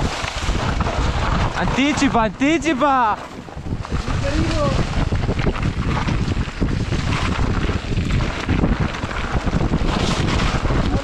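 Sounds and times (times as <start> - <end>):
bike rattling over rough trail: 0.0 - 11.0
wind buffeting microphone: 0.0 - 11.0.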